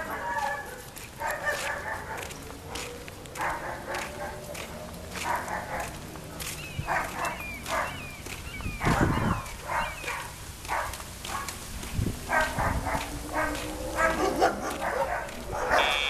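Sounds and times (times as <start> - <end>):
dogs barking and yipping: 0.0 - 16.0.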